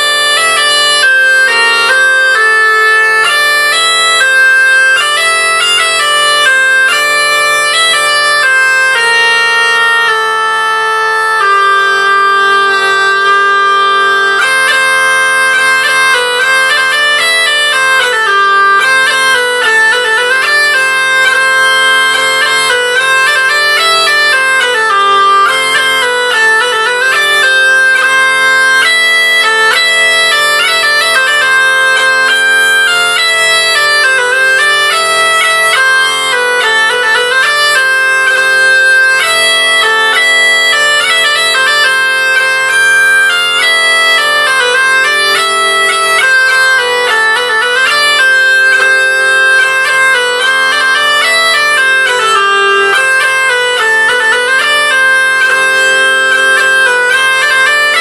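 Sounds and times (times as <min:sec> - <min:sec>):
bagpipes playing over a drone: 0:00.0 - 0:58.0.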